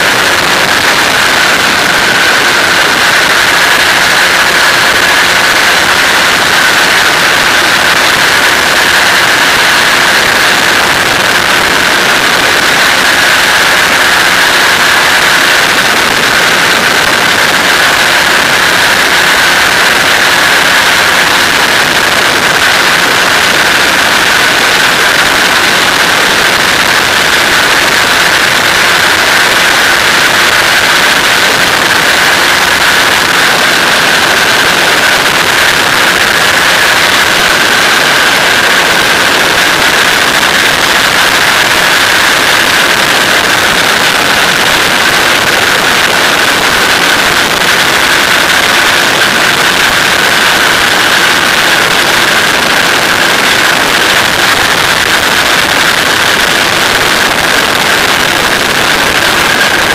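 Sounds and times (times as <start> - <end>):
microlight engine and propeller: 0.0 - 59.9.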